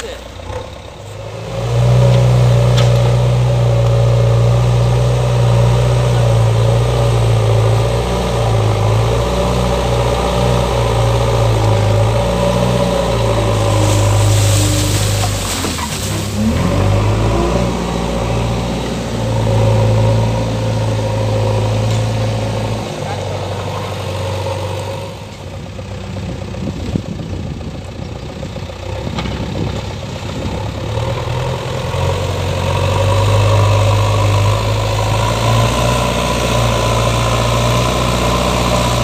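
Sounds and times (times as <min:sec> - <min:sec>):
diesel engine running under load: 0:00.0 - 0:39.0
loader bucket pushing soil: 0:00.0 - 0:39.0.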